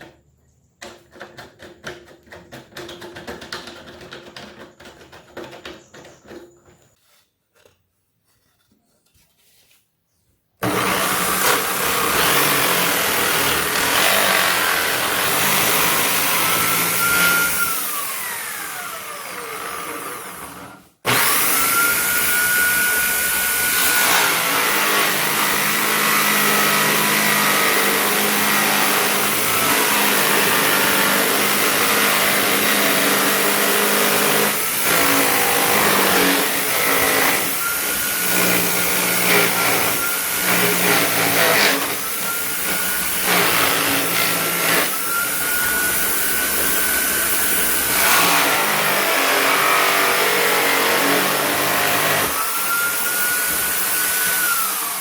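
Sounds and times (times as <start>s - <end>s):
electric drill running: 10.6s - 55.0s.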